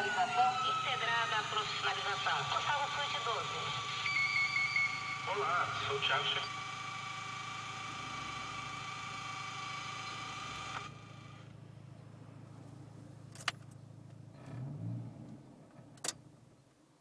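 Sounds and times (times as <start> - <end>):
electrical whine over low hum: 0.0 - 14.2.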